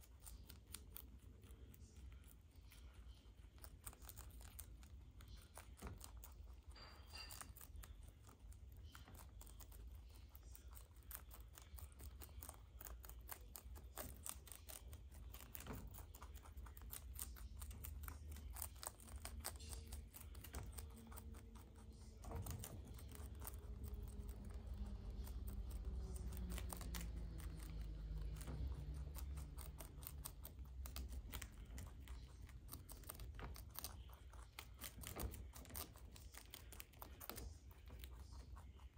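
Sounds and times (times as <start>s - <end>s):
low hum: 0.0s - 38.9s
rabbits chewing cabbage leaves: 0.0s - 38.9s.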